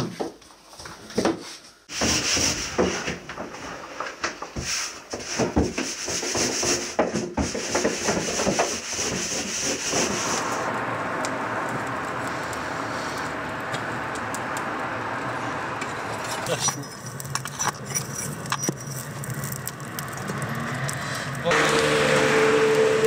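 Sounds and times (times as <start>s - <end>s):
charcoal fire hissing and crackling: 1.7s - 23.0s.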